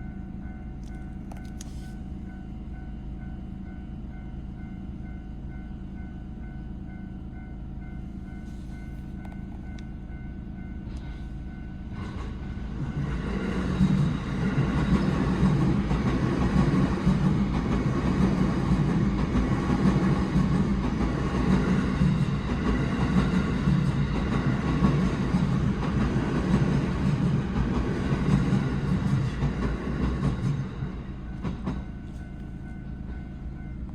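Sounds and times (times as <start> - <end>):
train passing with rail noise: 0.0 - 33.9.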